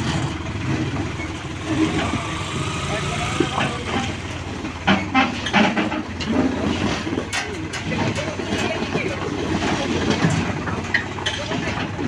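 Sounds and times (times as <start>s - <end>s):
concrete mixer rattling over gravel: 0.0s - 12.0s
tractor diesel engine running: 0.0s - 12.0s.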